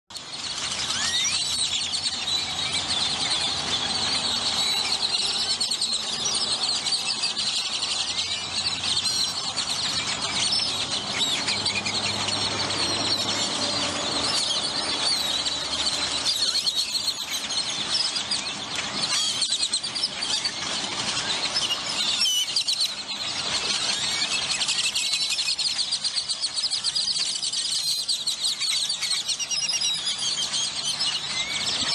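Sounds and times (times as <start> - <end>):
flock of birds chattering: 0.1 - 31.9
rising bird whistles: 0.1 - 31.9.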